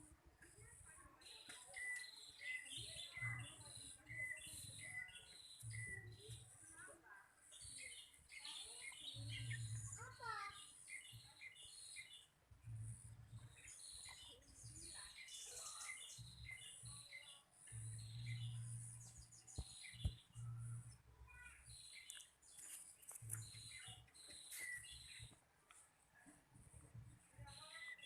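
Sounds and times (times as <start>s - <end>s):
small songbirds chirping: 0.4s - 25.9s, 26.6s - 28.0s.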